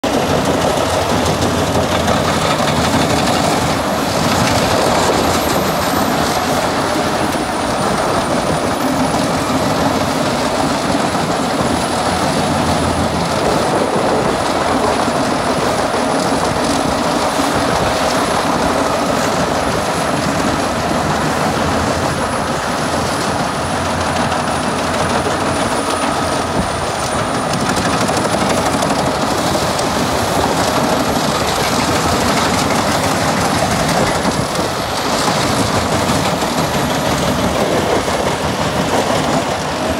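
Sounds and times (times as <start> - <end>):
wood chipper chipping logs: 0.0 - 39.9.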